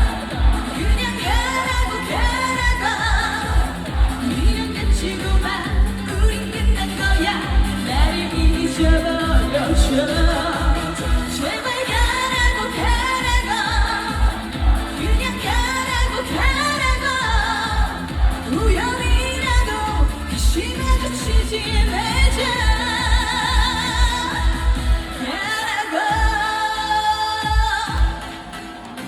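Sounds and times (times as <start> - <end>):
steady kick drum beat: 0.0 - 25.2, 27.3 - 29.0.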